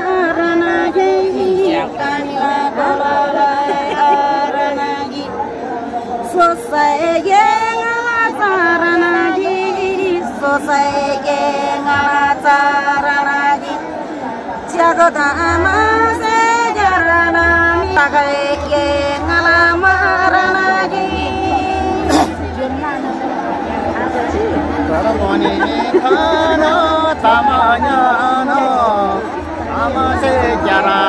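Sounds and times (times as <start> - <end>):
women singing unaccompanied: 0.0 - 31.0.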